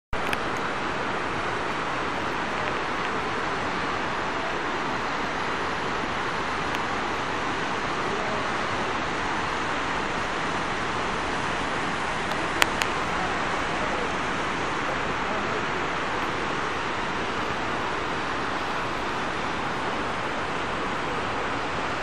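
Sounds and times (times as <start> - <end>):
fountain water splashing: 0.2 - 22.0.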